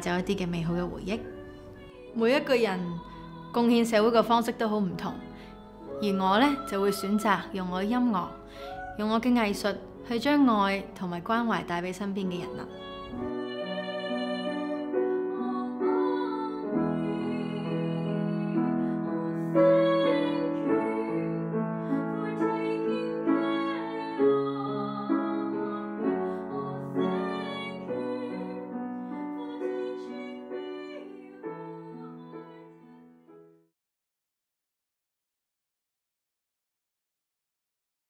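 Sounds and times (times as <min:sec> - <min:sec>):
slow piano music: 0:00.0 - 0:33.7.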